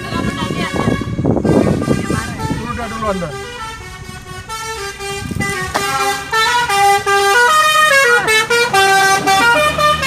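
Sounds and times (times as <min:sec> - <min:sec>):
multi-tone bus horn tune: 0:00.0 - 0:10.0.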